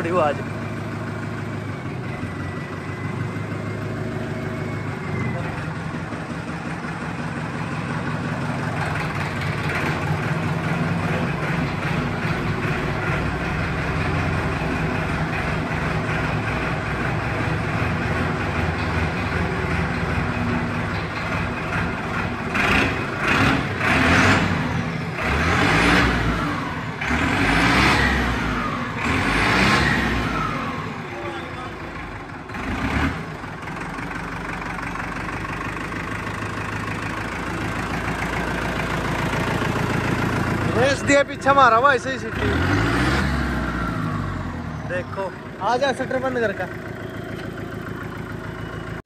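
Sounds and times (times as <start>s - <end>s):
tractor diesel engine revving: 0.0s - 49.0s.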